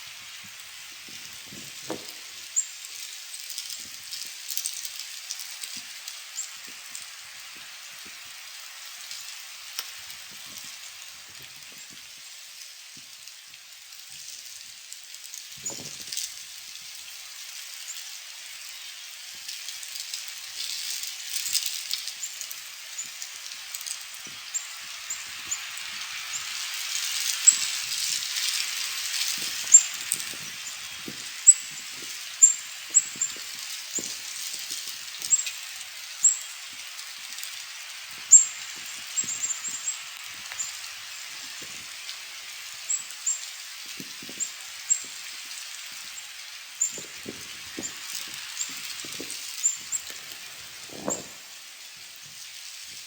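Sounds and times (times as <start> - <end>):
hiss of falling snow: 0.0 - 53.0.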